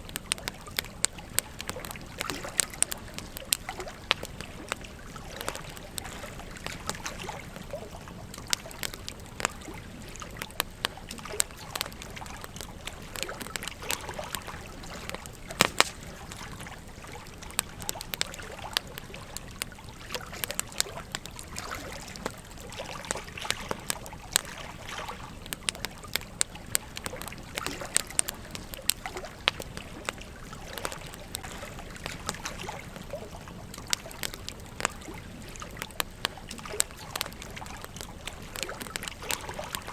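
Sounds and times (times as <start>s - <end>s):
campfire crackling and popping: 0.0s - 39.9s
gentle stream flowing: 0.0s - 39.9s.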